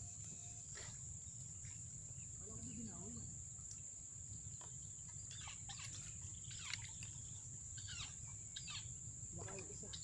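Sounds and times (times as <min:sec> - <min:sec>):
bird chirps: 0:00.0 - 0:10.0
high-pitched insect trill: 0:00.0 - 0:10.0.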